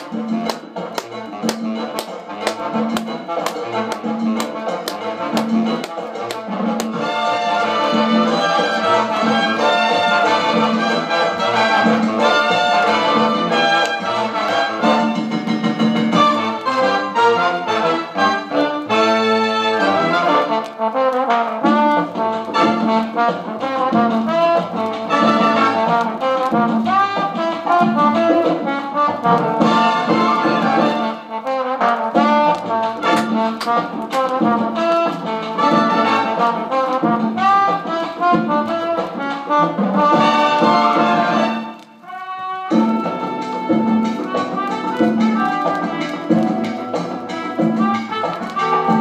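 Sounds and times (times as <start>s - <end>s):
jazz band brass music on vinyl: 0.0s - 49.0s.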